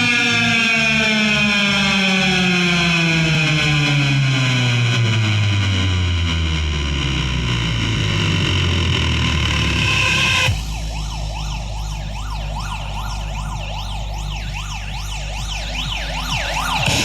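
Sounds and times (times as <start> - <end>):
deep bass drone: 0.0 - 17.0
distorted music: 0.0 - 17.0
siren wail sound effect: 0.0 - 17.0.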